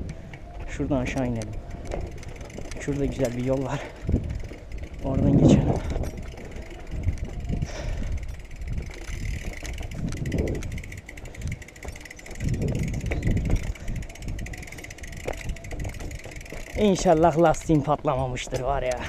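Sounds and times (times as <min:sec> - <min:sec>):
bike rattling over rocky ground: 0:00.0 - 0:19.0.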